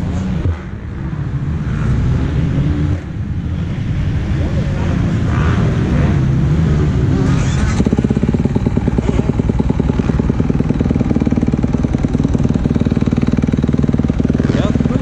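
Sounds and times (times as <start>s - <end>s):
motocross bike engine running: 0.0s - 15.0s.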